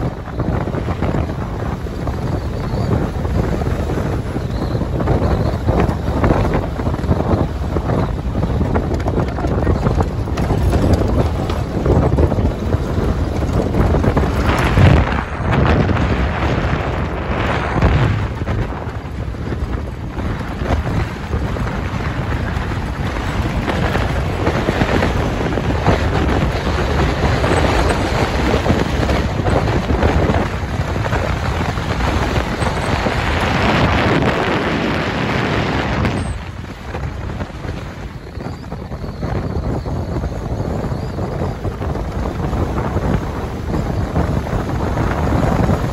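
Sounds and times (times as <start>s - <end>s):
vehicle driving on gravel road: 0.0s - 45.9s
wind buffeting microphone: 0.0s - 45.9s.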